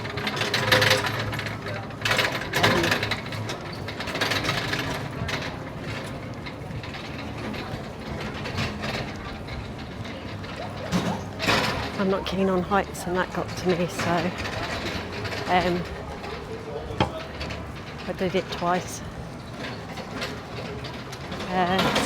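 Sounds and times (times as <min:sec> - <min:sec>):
roller coaster clattering on track: 0:00.0 - 0:22.0.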